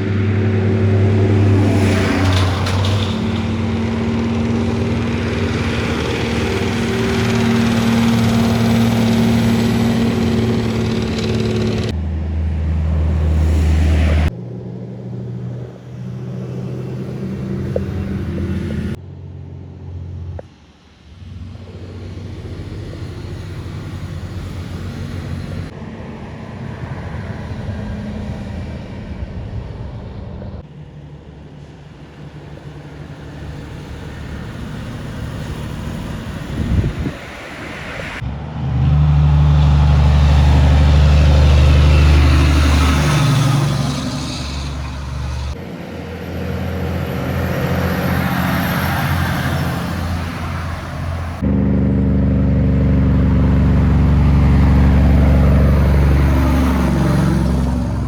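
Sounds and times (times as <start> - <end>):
diesel engines under load: 0.0 - 58.0
heavy trucks passing: 0.0 - 58.0
road noise: 0.0 - 58.0.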